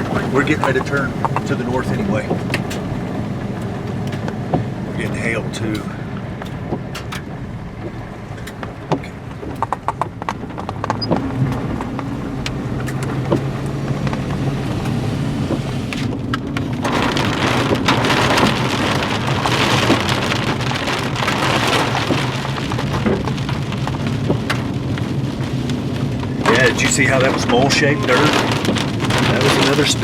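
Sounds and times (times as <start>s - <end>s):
engine humming: 0.0s - 30.0s
hail and rain on a vehicle: 0.0s - 30.0s.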